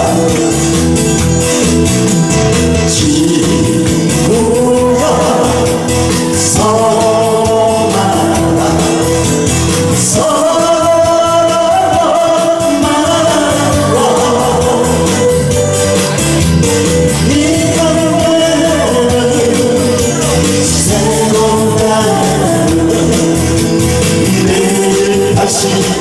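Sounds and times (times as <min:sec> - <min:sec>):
man singing into microphone: 0:00.0 - 0:16.0, 0:17.1 - 0:26.0
recorded backing track: 0:00.0 - 0:26.0.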